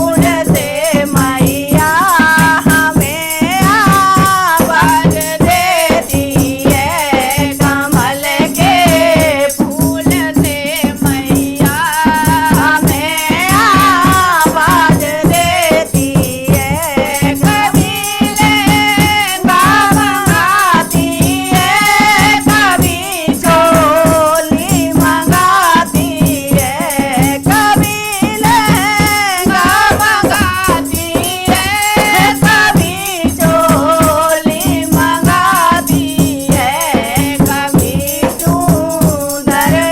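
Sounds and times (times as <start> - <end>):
fast steady percussion: 0.0 - 39.9
person singing devotional melody: 0.0 - 39.9.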